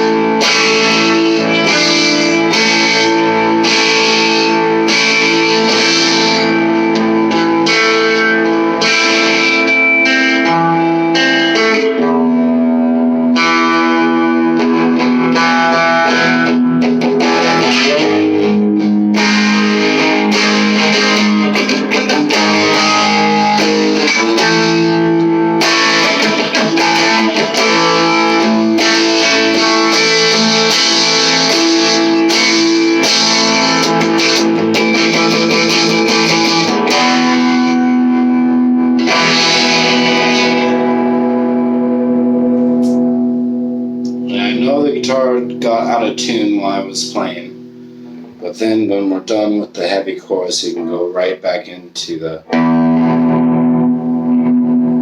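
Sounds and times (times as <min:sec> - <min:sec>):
overdriven electric guitar: 0:00.0 - 0:55.0.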